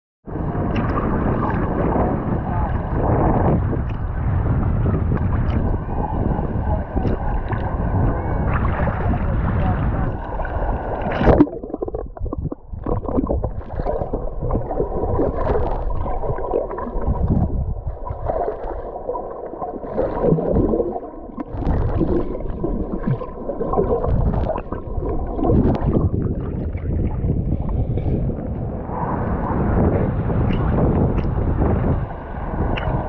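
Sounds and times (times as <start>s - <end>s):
muffled water sloshing: 0.3s - 33.0s
water splashes: 0.4s - 33.0s.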